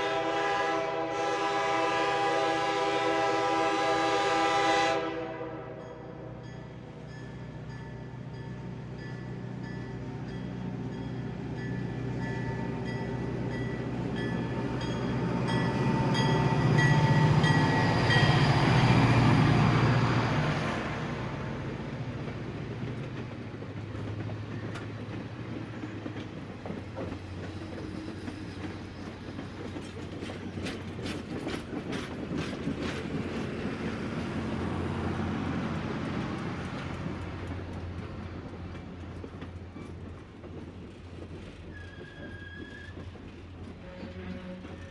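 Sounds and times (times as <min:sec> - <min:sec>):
train wheels clicking on track: 0:06.7 - 0:44.9.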